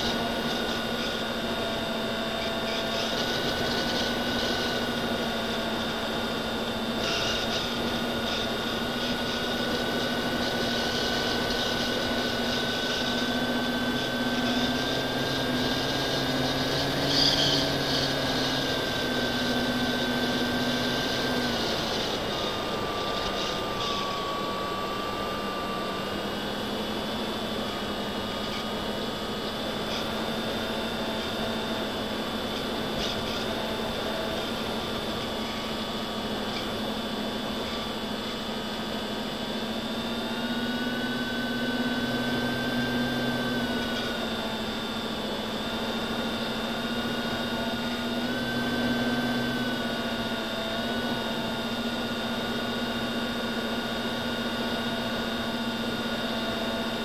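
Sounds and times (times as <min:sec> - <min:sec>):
electric motors and propellers whining: 0:00.0 - 0:57.0.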